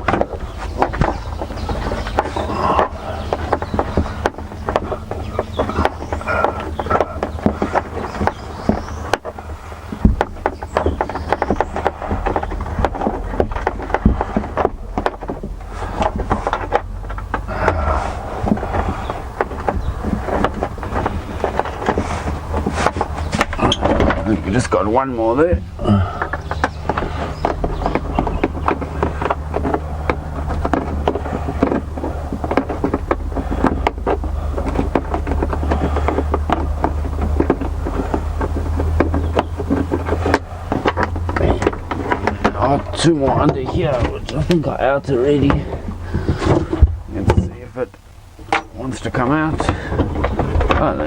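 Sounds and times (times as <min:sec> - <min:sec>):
hand tools clicking and knocking: 0:00.0 - 0:51.0
scraping: 0:00.0 - 0:51.0
steady low hum: 0:00.0 - 0:51.0
steady low rumble: 0:00.0 - 0:51.0.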